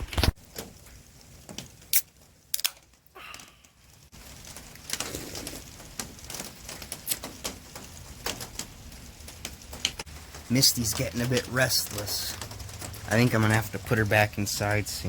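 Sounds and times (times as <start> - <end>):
rain pattering on a shelter: 0.0 - 15.0.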